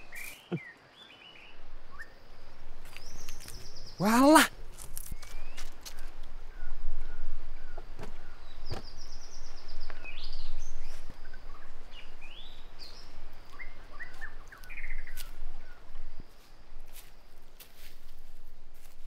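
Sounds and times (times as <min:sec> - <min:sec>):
birds calling and chirping: 0:00.0 - 0:16.3.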